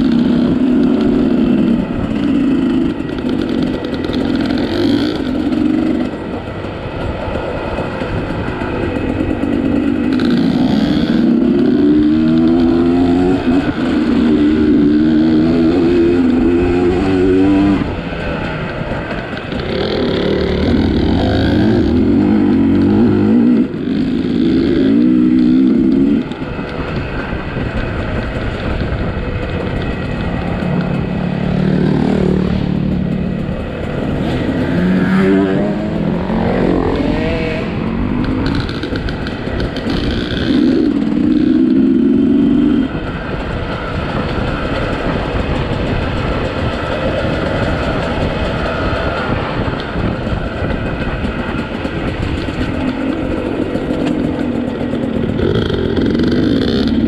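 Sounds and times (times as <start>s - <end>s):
two-stroke dirt bike revving: 0.0s - 57.0s.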